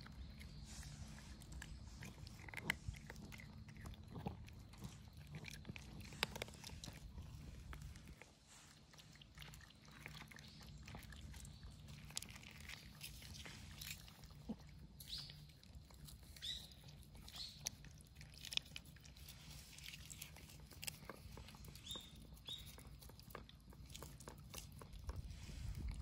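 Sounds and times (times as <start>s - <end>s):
cats crunching dry kibble: 0.0s - 26.0s
low steady background hum: 0.0s - 26.0s.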